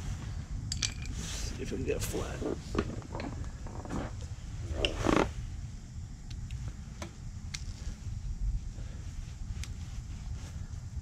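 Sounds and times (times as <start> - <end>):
low steady rumble: 0.0 - 11.0
rustle: 0.0 - 11.0.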